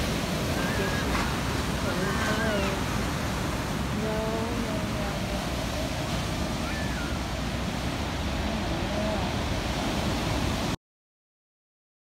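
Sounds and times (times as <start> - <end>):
ocean surf breaking: 0.0 - 10.8.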